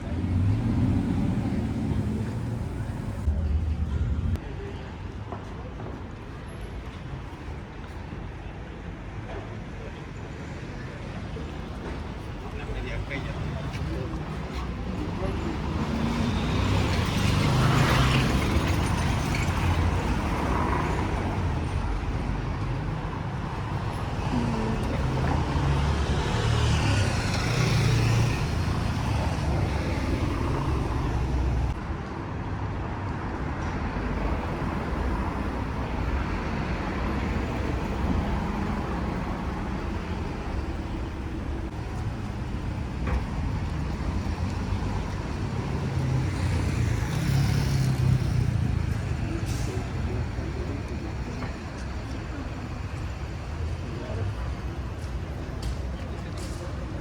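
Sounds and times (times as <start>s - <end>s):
passing car traffic rumble: 0.0s - 4.4s, 11.6s - 57.0s.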